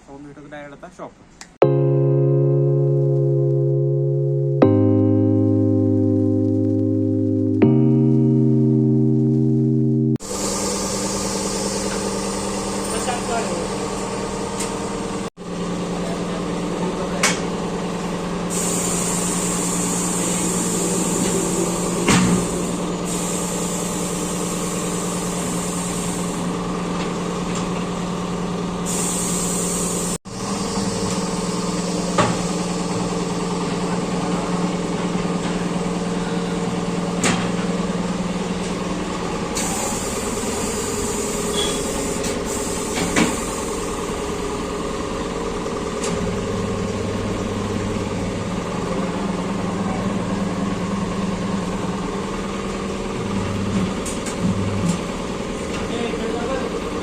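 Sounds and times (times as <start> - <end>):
machine humming: 1.6 - 57.0.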